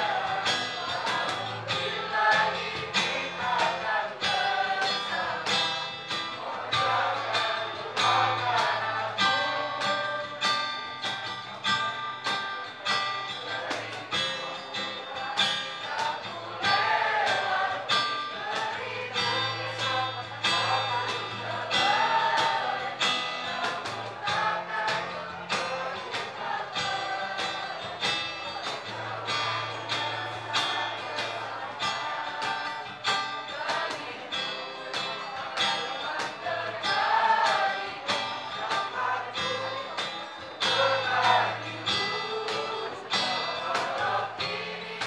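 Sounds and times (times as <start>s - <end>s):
choir singing in unison: 0.0s - 10.6s, 13.3s - 45.0s
guitar strumming: 0.0s - 45.0s.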